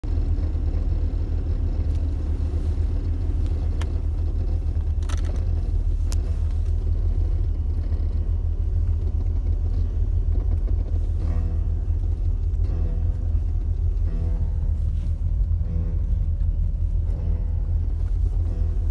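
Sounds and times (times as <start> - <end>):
car rolling low rumble: 0.0 - 18.9
brake clicks: 1.7 - 18.9.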